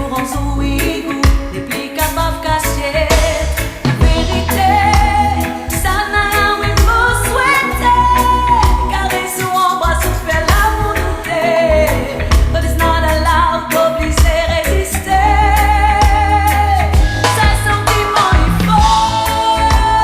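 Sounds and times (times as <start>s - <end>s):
pop song with vocals: 0.0s - 20.0s.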